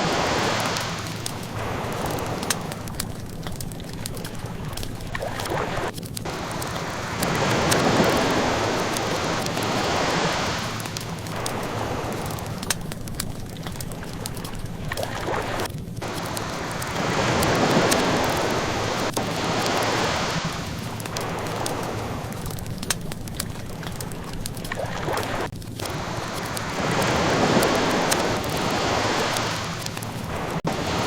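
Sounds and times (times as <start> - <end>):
ocean waves washing in: 0.0 - 31.0
wood fire crackling: 0.0 - 31.0.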